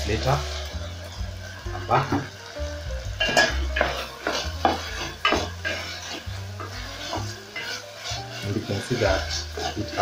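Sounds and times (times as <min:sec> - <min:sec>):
meat sizzling in a pot: 0:00.0 - 0:10.0
wooden spoon scraping a pot: 0:01.5 - 0:10.0.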